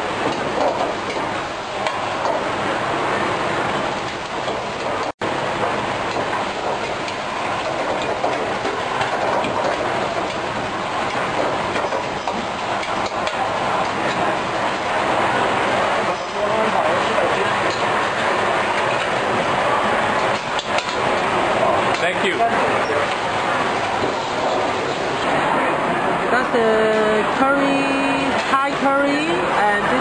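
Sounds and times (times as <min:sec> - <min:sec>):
gas burner flame rushing: 0:00.0 - 0:30.0.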